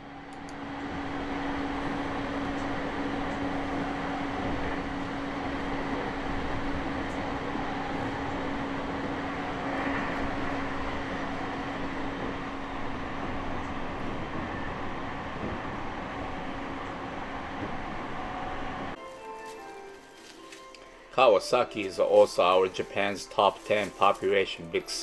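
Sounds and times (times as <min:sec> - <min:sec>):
train wheels rumbling on rails: 0:00.0 - 0:19.0, 0:21.6 - 0:24.8.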